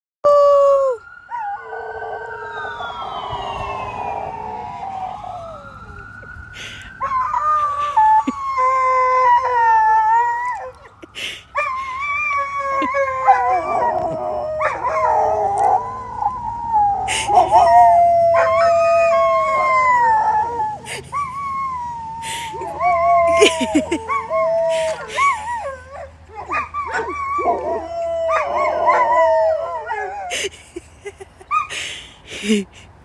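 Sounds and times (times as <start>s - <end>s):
ambulance siren wailing: 0.2s - 31.7s
dogs howling: 0.3s - 30.4s.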